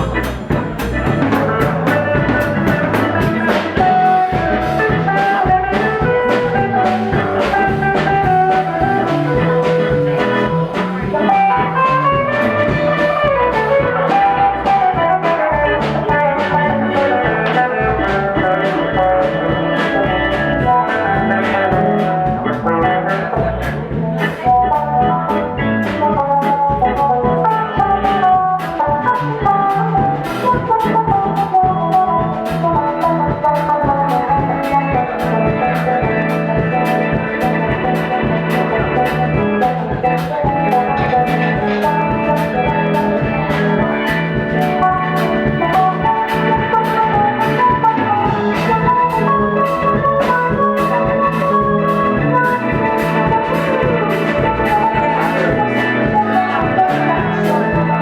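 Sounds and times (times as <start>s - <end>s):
bass: 0.0s - 58.0s
drum kit steady beat: 0.0s - 58.0s
lead guitar lines: 0.0s - 58.0s.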